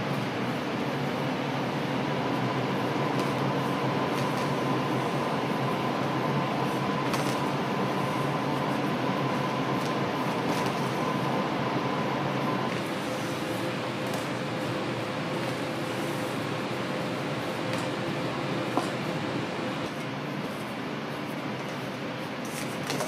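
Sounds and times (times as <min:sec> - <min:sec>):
ventilation hum and hiss: 0:00.0 - 0:23.0.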